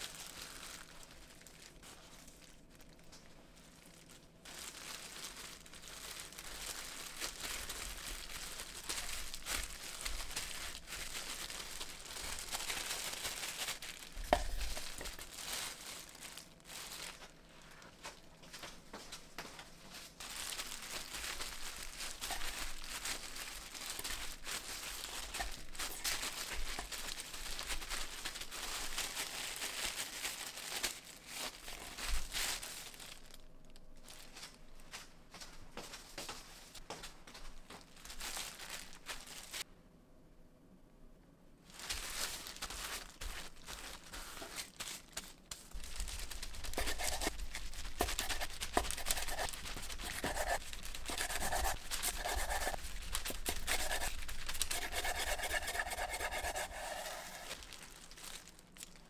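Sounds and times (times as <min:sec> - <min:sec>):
packaging rustling and crackling: 0:00.0 - 0:39.7, 0:41.7 - 0:59.0.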